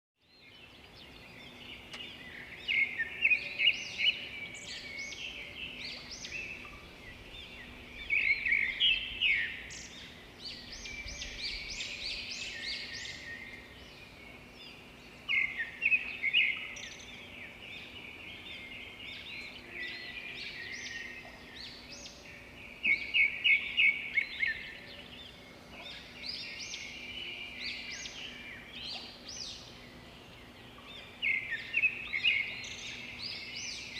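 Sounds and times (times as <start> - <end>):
songbird chirping and trilling: 0.2 - 33.9.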